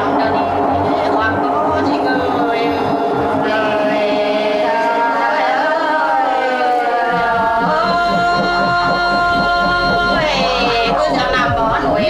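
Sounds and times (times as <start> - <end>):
low pulsing: 0.0 - 5.3, 7.1 - 12.0
sustained gliding tones: 0.0 - 5.8, 6.8 - 12.0.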